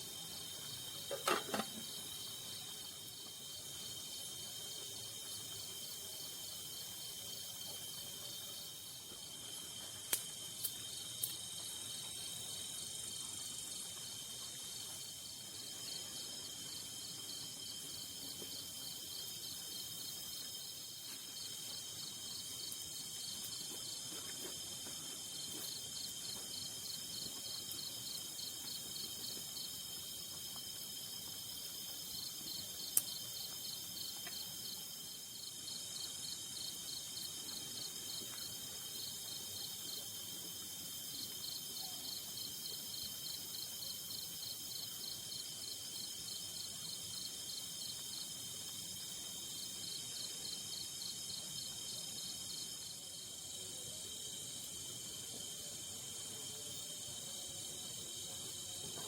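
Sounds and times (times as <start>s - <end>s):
pulsing insect chirp: 0.0s - 24.1s, 24.8s - 59.0s
insect drone: 0.0s - 59.0s.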